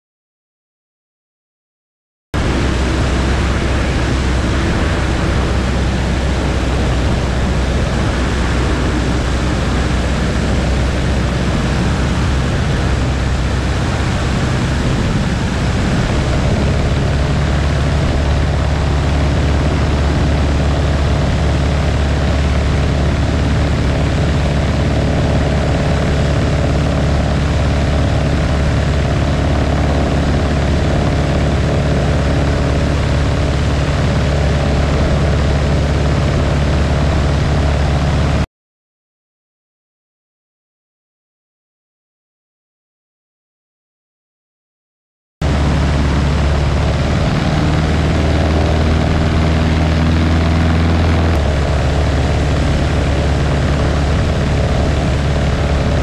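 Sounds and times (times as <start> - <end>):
propeller aircraft engine: 2.4 - 38.5, 45.4 - 56.0.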